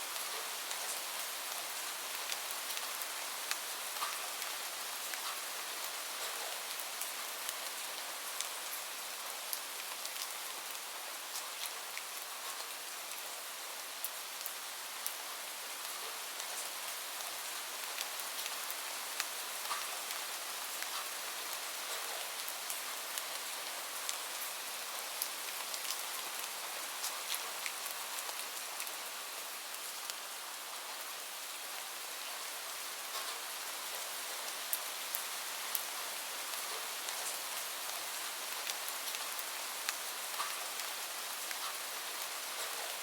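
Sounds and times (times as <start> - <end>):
rain on a roof: 0.0 - 43.0.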